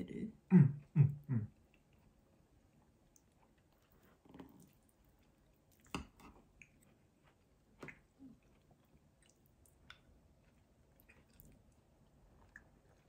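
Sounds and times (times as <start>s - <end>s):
soft chewing: 0.8s - 13.0s.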